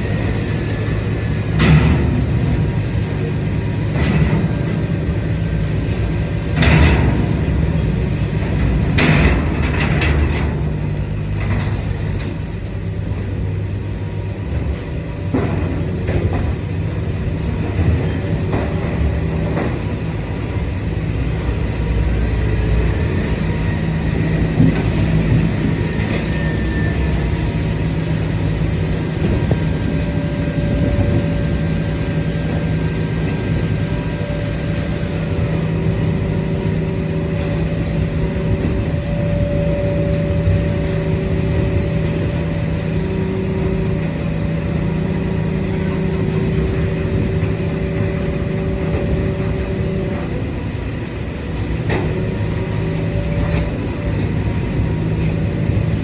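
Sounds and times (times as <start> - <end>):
heavy hydraulic drone: 0.0 - 56.0
hydraulic whining tones: 0.0 - 56.0.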